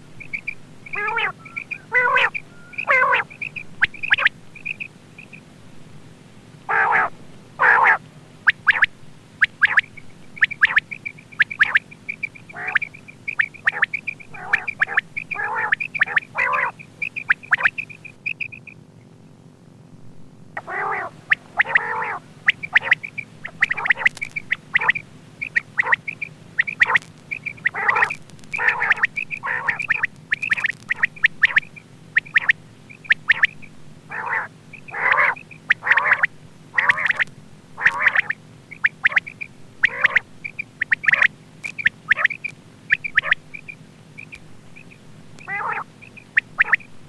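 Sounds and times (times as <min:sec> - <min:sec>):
quail calling: 0:00.0 - 0:05.5, 0:06.6 - 0:18.8, 0:20.6 - 0:47.0
faint steady hum: 0:00.0 - 0:47.0.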